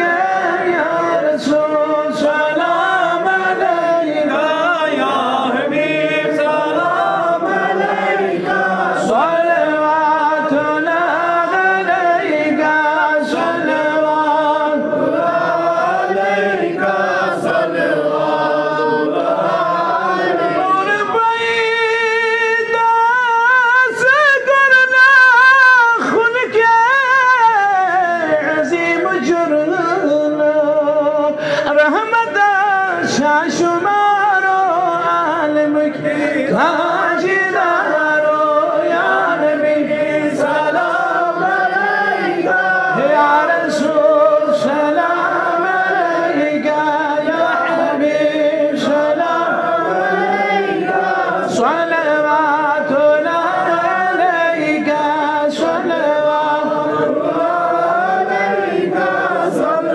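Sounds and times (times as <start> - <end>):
man chanting unaccompanied: 0.0 - 59.9.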